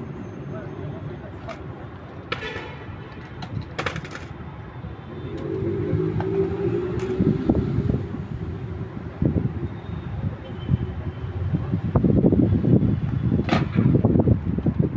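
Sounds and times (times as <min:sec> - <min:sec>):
city traffic rumble: 0:00.0 - 0:14.9.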